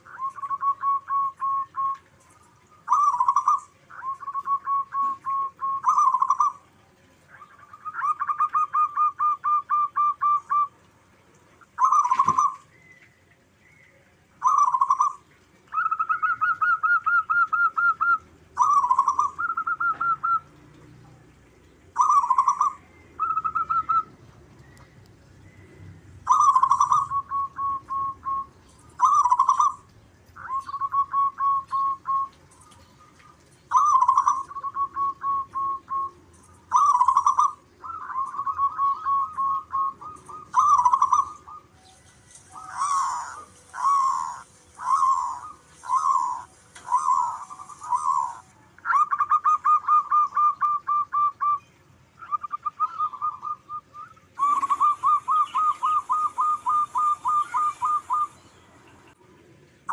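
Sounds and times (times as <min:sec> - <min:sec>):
dove cooing: 0:00.0 - 0:12.9, 0:14.4 - 0:20.9, 0:21.7 - 0:24.8, 0:26.2 - 0:51.6, 0:52.2 - 0:59.2.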